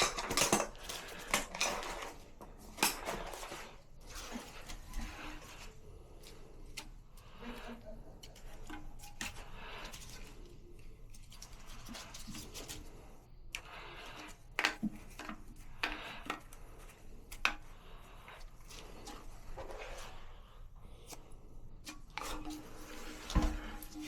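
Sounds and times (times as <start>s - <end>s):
rubbing and scraping of plastic parts: 0.0s - 24.0s.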